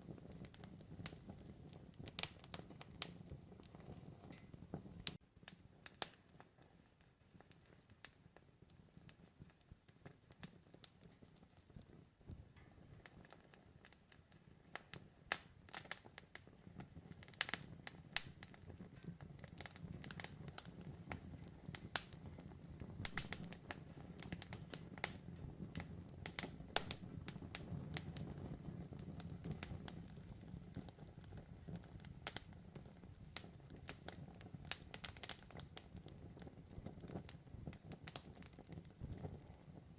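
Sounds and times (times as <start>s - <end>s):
low rumble of flames: 0.0s - 39.9s
burning wood popping and snapping: 0.1s - 6.8s, 9.1s - 39.7s.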